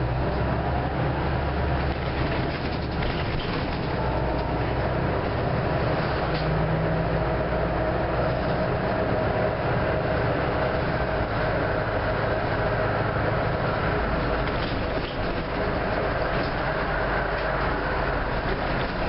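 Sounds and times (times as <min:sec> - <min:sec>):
bus diesel engine: 0:00.0 - 0:19.0
road rumble: 0:00.0 - 0:19.0.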